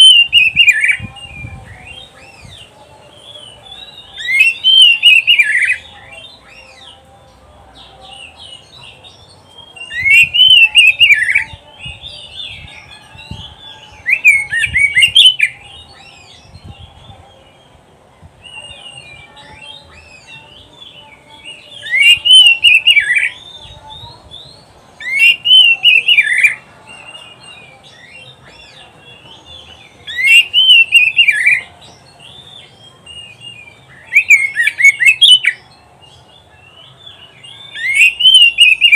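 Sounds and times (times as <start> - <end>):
bird singing scratchy song: 0.0 - 38.9.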